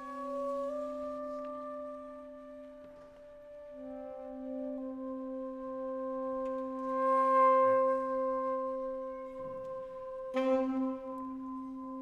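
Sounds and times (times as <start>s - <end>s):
flute sustained notes: 0.0s - 12.0s
saxophone sustained notes: 0.0s - 12.0s.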